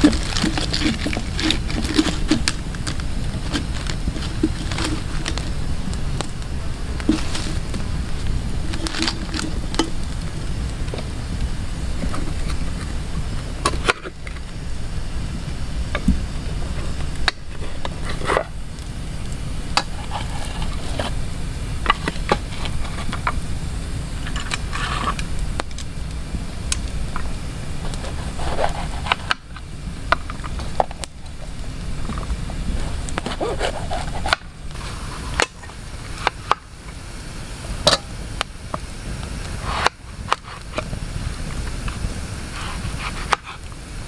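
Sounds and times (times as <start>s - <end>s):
campfire crackling: 0.0s - 44.0s
steady low rumble: 0.0s - 44.0s.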